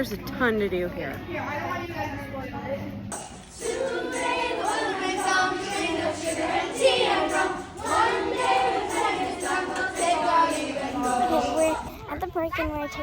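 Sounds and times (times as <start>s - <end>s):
voices singing: 1.2s - 13.0s.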